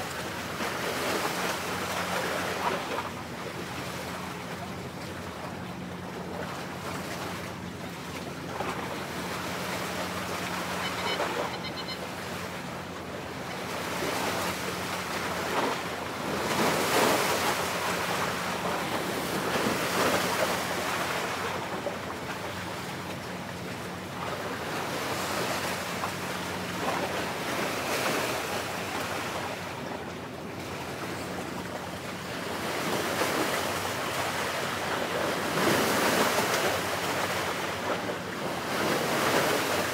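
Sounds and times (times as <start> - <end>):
sea washing against breakwater: 0.0 - 39.9.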